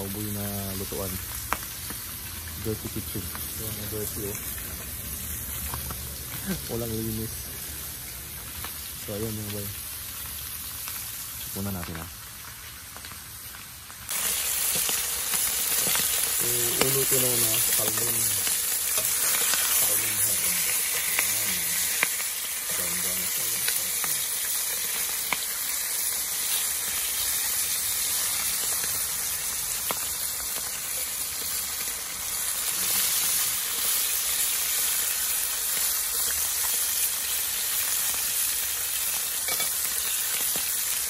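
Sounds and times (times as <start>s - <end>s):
fish sizzling in oil: 0.0s - 41.0s.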